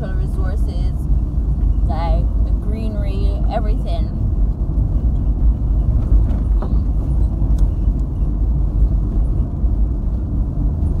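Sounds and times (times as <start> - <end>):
car cabin rumble on rough road: 0.0 - 11.0.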